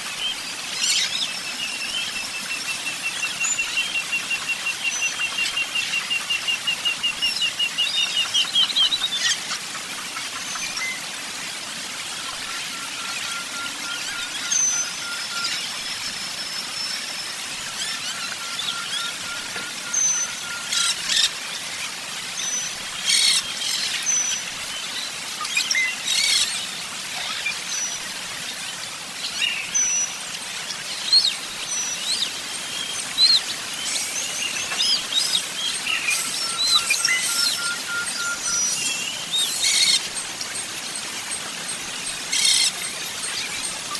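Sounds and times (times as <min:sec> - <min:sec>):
birds chirping and trilling: 0:00.1 - 0:43.9.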